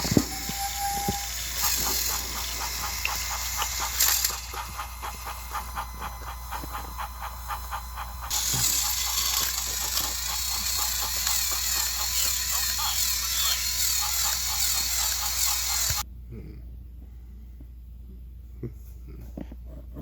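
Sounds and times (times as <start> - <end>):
toy train gears clicking: 0.0 - 16.0
toy train motor whir: 0.0 - 16.0.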